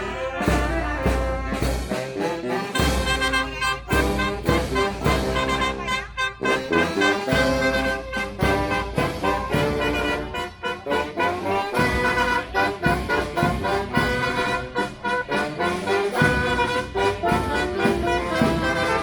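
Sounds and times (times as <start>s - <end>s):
swing jazz brass music: 0.0s - 19.0s.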